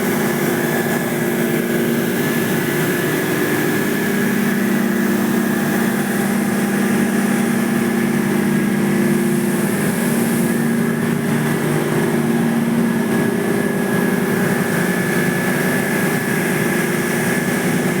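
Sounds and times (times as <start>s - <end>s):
fan rush: 0.0s - 18.0s.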